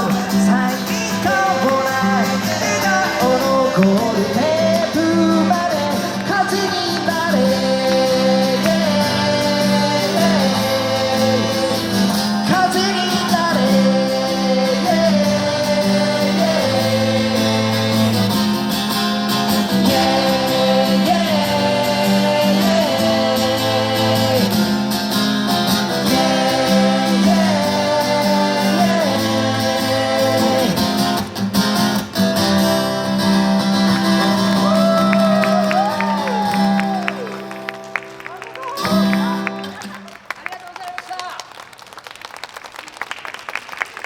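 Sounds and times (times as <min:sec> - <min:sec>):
singer wordless vocals: 0:00.0 - 0:32.0, 0:32.7 - 0:37.6
live pop-rock guitars: 0:00.0 - 0:40.2.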